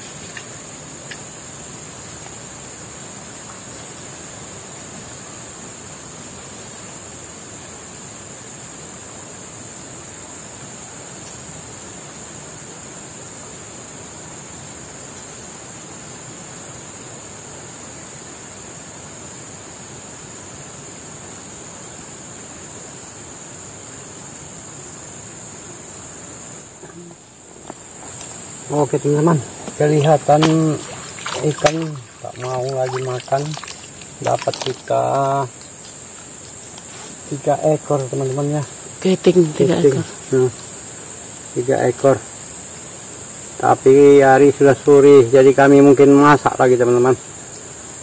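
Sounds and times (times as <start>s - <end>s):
high-pitched insect drone: 0.0s - 48.0s
steady hiss: 0.0s - 48.0s.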